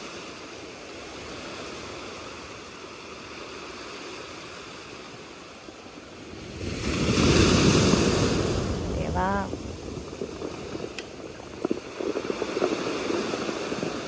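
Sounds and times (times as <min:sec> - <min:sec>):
surf washing over pebbles: 0:00.0 - 0:14.0.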